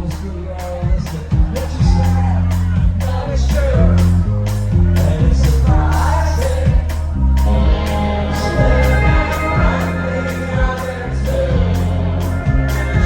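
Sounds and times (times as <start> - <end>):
drums: 0.0 - 13.0
heavy bass line: 0.0 - 13.0
live band playing: 0.0 - 13.0
group vocals singing: 1.1 - 13.0.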